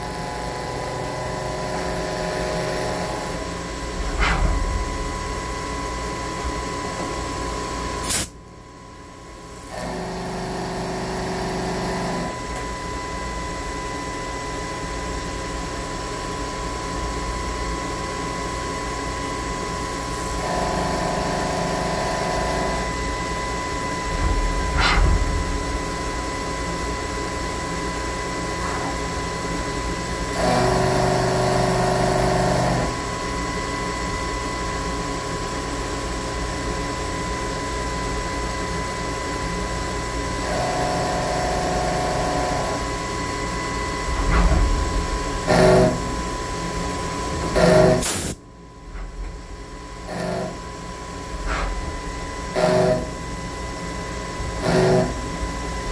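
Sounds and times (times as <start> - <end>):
milling machine whining: 0.0 - 8.1, 17.3 - 35.5, 37.1 - 55.9.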